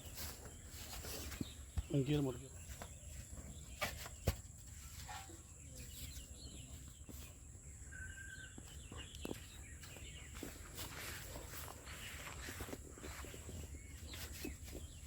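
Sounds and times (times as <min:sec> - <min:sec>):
bird chirps: 0:00.0 - 0:15.0
faint outdoor ambience: 0:00.0 - 0:15.0.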